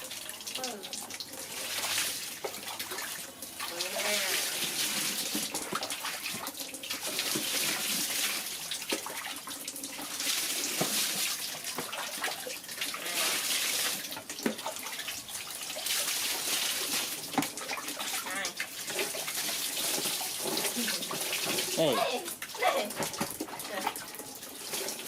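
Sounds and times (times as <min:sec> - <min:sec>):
tap water running and splashing: 0:00.0 - 0:25.0.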